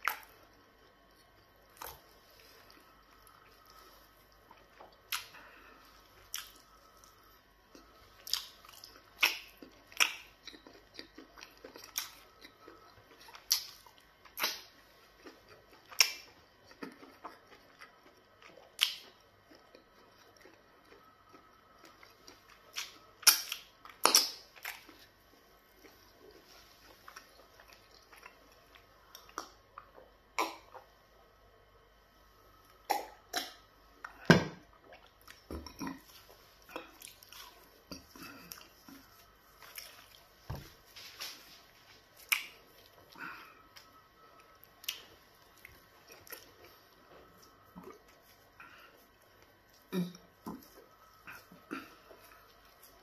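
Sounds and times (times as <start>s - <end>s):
person chewing food: 0.0s - 31.6s, 32.3s - 53.0s.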